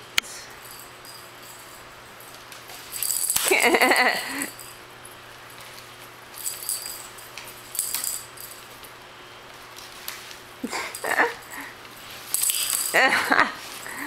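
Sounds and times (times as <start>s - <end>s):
cat toy ball rattling and jingling: 0.6s - 9.0s, 10.2s - 13.9s.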